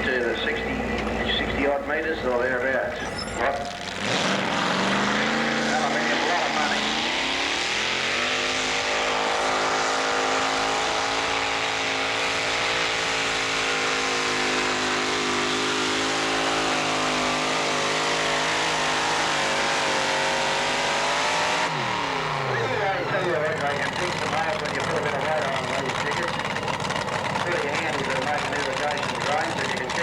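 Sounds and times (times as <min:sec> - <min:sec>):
tractor engine at high revs: 0:00.0 - 0:30.0.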